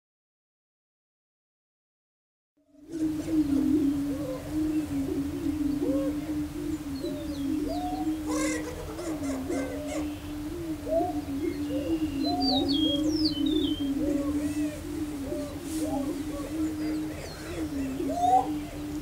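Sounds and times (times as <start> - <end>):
prairie-chickens booming: 2.8 - 19.0.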